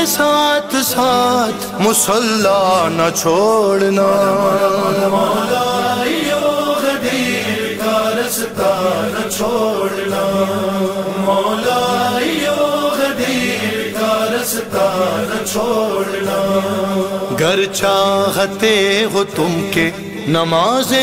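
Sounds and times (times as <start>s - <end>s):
person chanting devotional melody: 0.0s - 21.0s.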